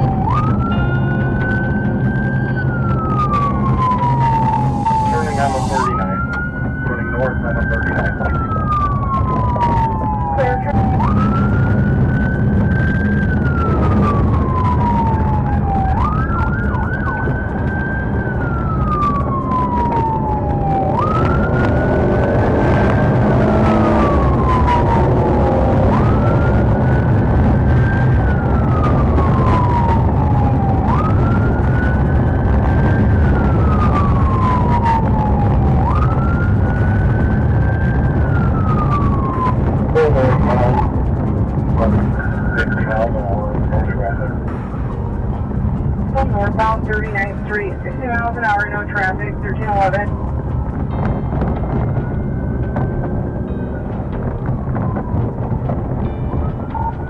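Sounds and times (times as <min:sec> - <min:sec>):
police siren wailing: 0:00.0 - 0:57.0
vehicle engine and tyres rumbling: 0:00.0 - 0:57.0.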